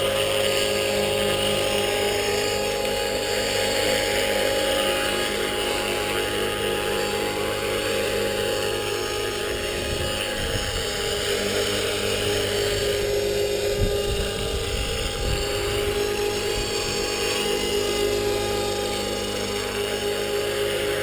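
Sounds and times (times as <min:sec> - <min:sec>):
electric motor whine: 0:00.0 - 0:21.0
rotor blades rushing: 0:00.0 - 0:21.0.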